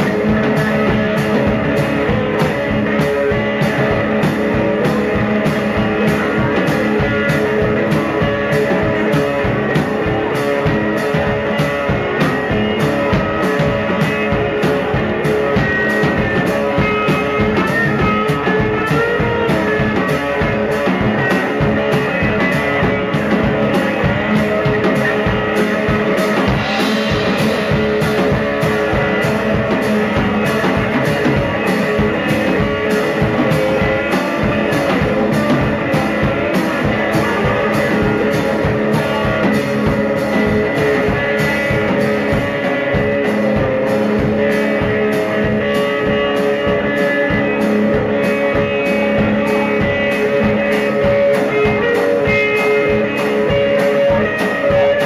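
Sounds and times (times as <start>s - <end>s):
drum kit steady beat: 0.0s - 55.0s
electric blues guitar: 0.0s - 55.0s.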